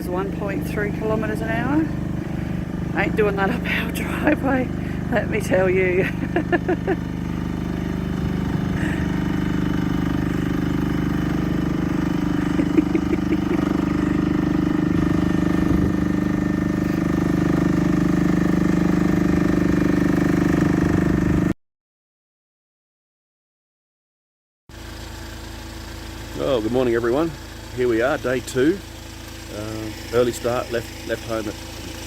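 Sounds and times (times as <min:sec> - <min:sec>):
excavator engine running: 0:00.0 - 0:21.5, 0:24.7 - 0:32.0.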